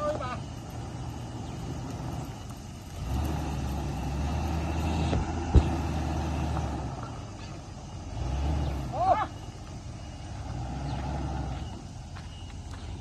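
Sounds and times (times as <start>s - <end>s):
suv engine running under load: 0.0s - 13.0s.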